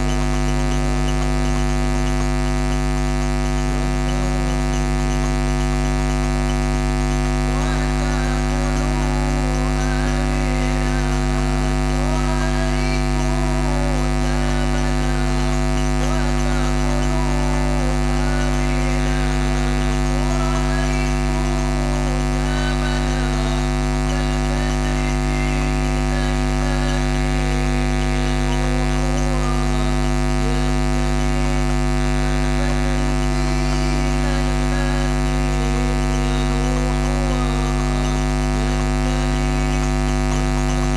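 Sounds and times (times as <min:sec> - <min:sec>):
electrical mains hum: 0:00.0 - 0:40.9
faint sung melody: 0:00.0 - 0:40.9.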